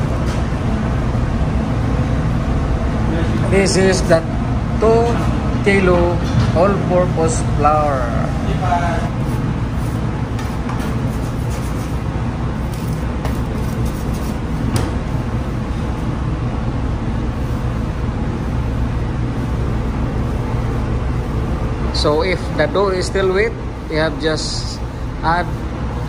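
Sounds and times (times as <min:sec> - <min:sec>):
dough kneaded on steel table: 0:00.0 - 0:26.0
low machinery hum: 0:00.0 - 0:26.0.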